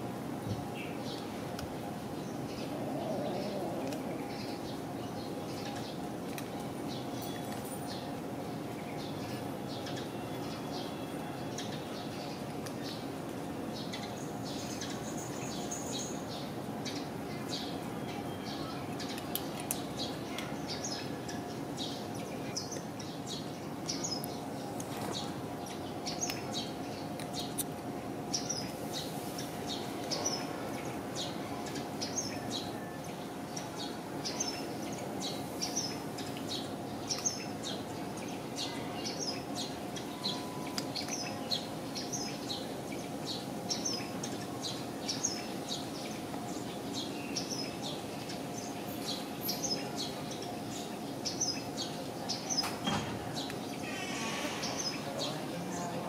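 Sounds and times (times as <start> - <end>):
small birds chirping: 0.7 - 56.0.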